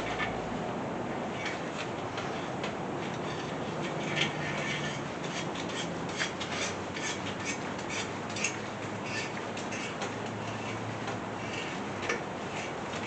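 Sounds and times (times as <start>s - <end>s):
metal tool clicks and scrapes: 2.2s - 13.0s.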